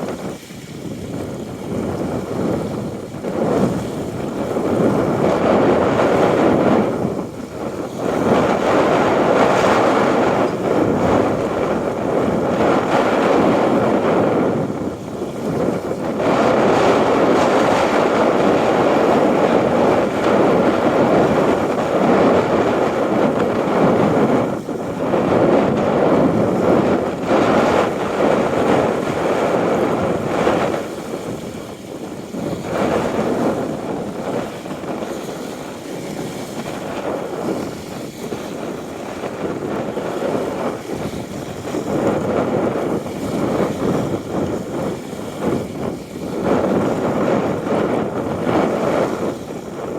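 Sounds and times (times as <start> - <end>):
wind blowing over microphone: 0.0 - 49.9.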